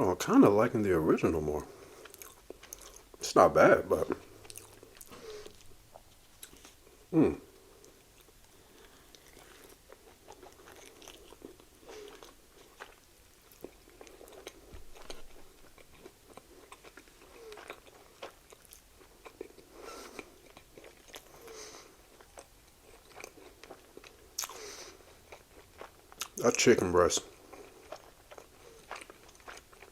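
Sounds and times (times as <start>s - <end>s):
man chewing food: 1.4s - 29.9s.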